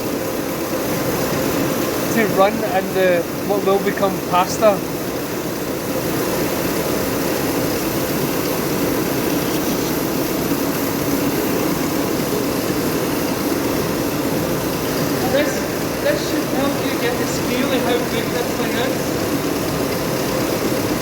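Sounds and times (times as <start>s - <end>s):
machinery drone: 0.0s - 21.0s.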